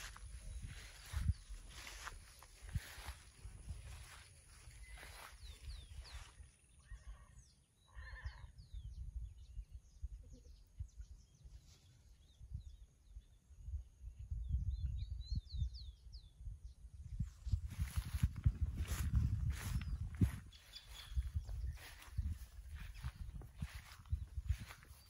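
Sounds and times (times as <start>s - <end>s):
small birds chirping: 0.0s - 13.5s, 14.3s - 25.0s
wind rumble on microphone: 0.0s - 25.0s.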